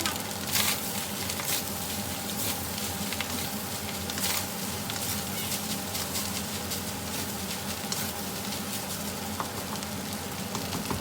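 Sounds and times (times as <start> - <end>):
fried rice sizzling in a pan: 0.0 - 11.0.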